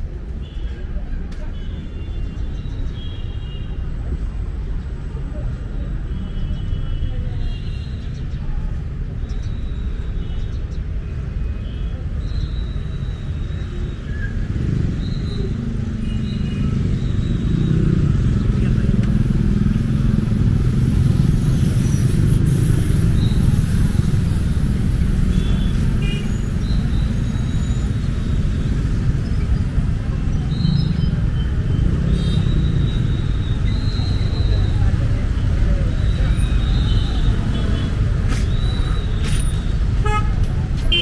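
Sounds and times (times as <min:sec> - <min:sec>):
motorcycle and car engines rumbling: 0:08.1 - 0:41.0.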